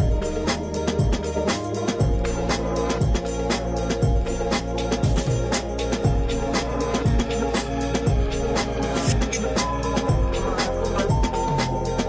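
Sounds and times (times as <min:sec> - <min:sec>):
keyboard chords: 0:00.0 - 0:12.0
steady beat: 0:00.0 - 0:12.0.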